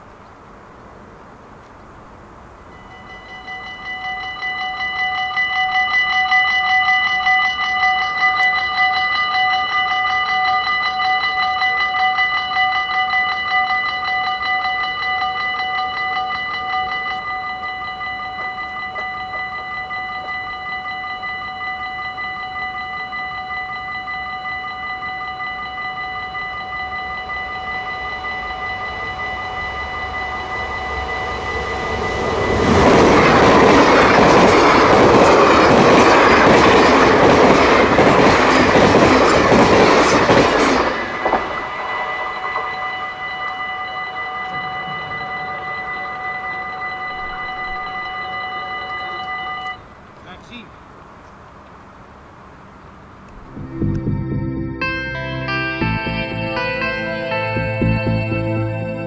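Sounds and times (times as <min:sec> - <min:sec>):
train rumble: 0:00.0 - 0:58.4
level-crossing warning bell ringing: 0:02.7 - 0:51.0, 0:52.1 - 0:59.0.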